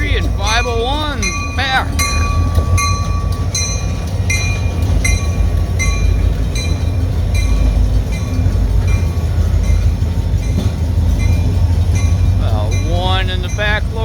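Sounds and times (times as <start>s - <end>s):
freight train rumbling past: 0.0s - 14.0s
railroad crossing bell dinging: 0.0s - 14.0s.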